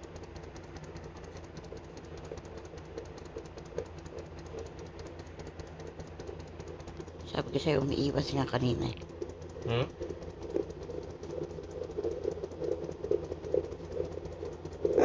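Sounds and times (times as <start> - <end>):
fast faint clicking: 0.0 - 15.0
fetal doppler rumbling static: 0.0 - 15.0.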